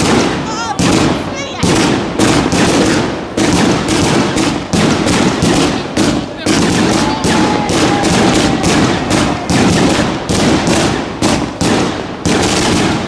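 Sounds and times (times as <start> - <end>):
fireworks firing and bursting: 0.0 - 13.0.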